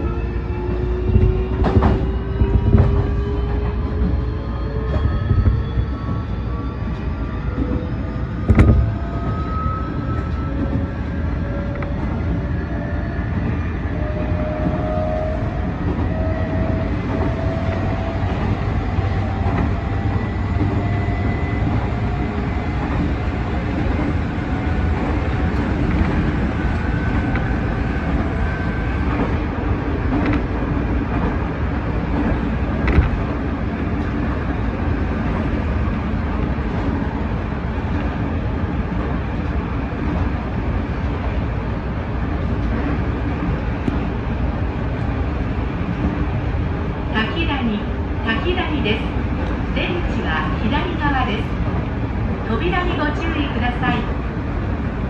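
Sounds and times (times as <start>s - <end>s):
train wheel and rail rumble: 0.0s - 55.0s.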